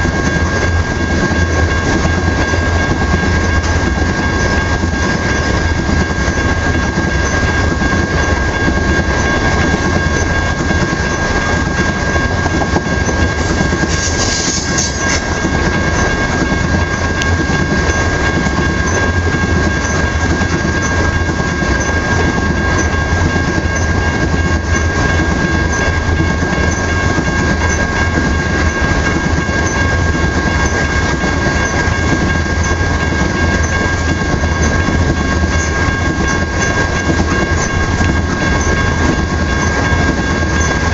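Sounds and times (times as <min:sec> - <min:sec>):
high ringing tone: 0:00.0 - 0:40.9
train wheels rumbling on rail: 0:00.0 - 0:40.9.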